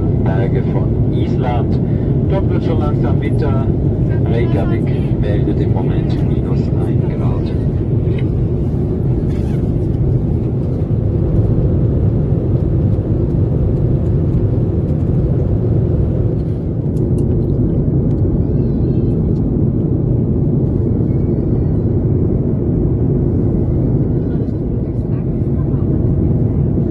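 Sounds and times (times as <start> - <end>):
airliner cabin rumble: 0.0 - 26.9.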